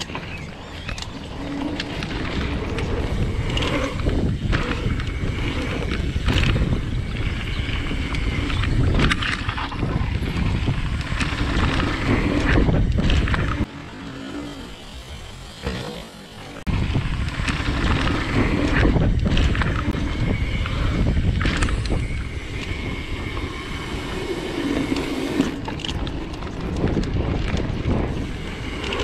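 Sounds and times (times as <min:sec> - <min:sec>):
wind on microphone: 0:00.0 - 0:13.7, 0:16.6 - 0:29.0
bike knocking and rattling: 0:00.0 - 0:29.0
bike tyres rumbling on gravel: 0:00.0 - 0:29.0.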